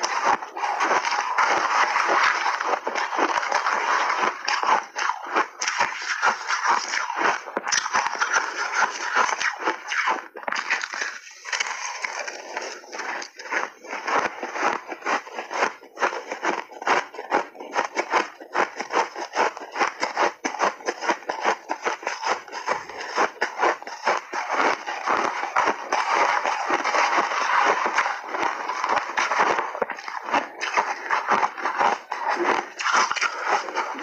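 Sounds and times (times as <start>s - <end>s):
crunchy ice being chewed: 0.0s - 34.0s.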